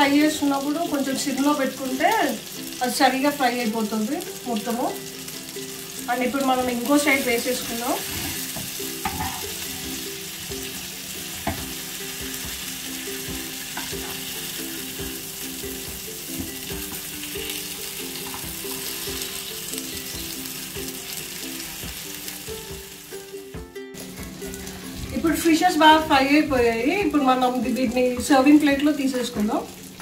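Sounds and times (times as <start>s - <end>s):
fish sizzling in hot oil: 0.0s - 30.0s
quiet background music: 0.0s - 30.0s.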